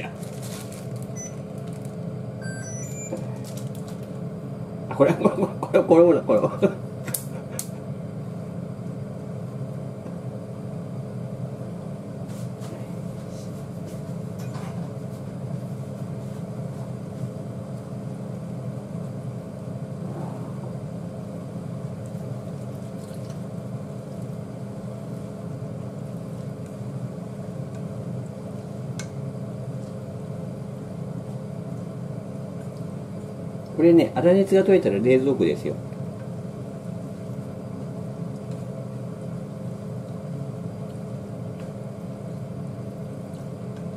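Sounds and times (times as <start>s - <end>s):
kitchen appliances humming: 0.0s - 43.9s.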